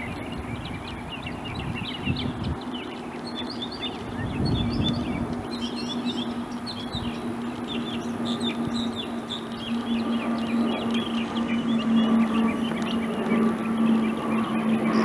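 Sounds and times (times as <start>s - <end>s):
birds chirping: 0.0s - 15.0s
distant aircraft drone: 0.0s - 15.0s.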